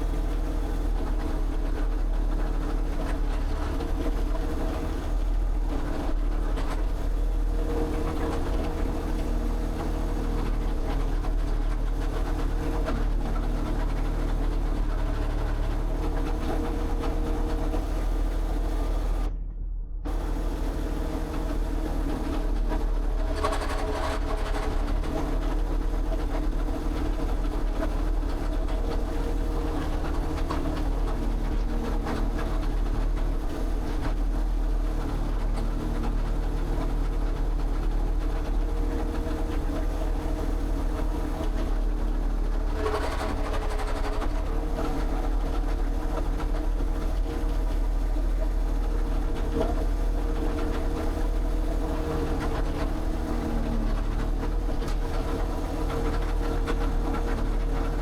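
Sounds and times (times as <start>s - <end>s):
engine humming steadily: 0.0s - 58.0s.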